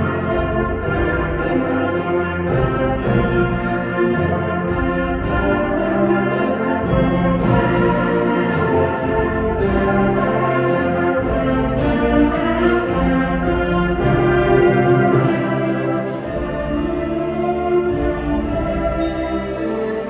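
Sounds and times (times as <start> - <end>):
concert band playing: 0.0 - 20.0
percussion strikes: 0.0 - 20.0.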